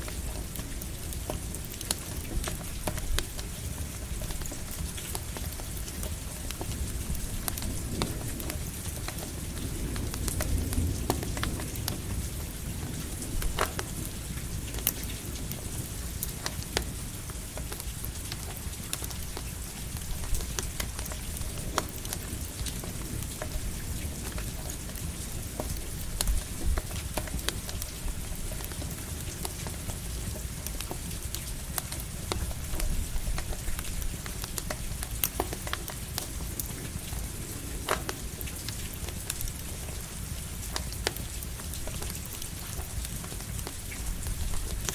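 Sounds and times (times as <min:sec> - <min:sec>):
campfire crackling and popping: 0:00.0 - 0:44.9
light rain hiss: 0:00.0 - 0:44.9.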